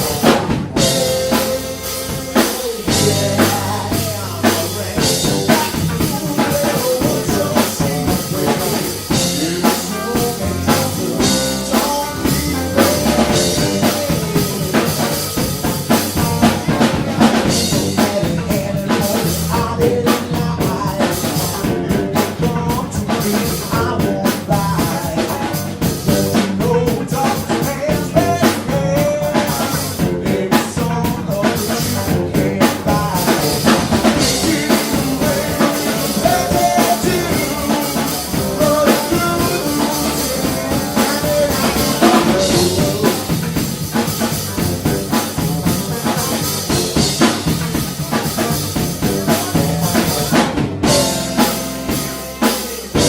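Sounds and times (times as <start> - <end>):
bass line: 0.0 - 53.0
drum kit beat: 0.0 - 53.0
live band playing: 0.0 - 53.0.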